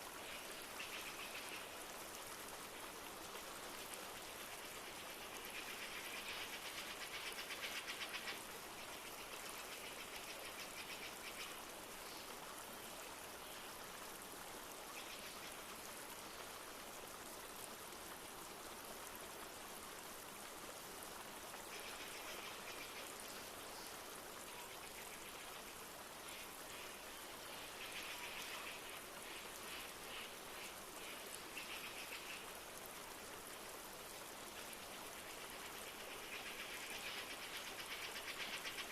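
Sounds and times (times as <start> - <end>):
flowing river: 0.0 - 38.9
light rain: 0.0 - 38.9.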